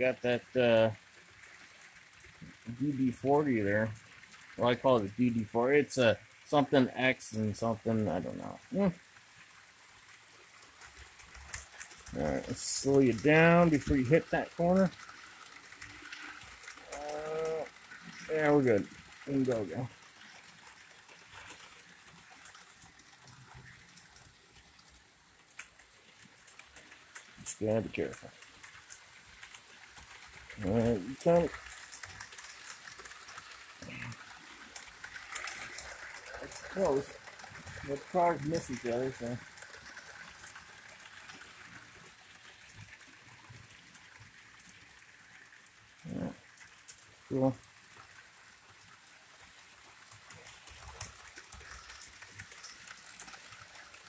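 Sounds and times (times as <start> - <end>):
faint hiss: 0.0 - 54.0
model train clicking: 0.0 - 54.0.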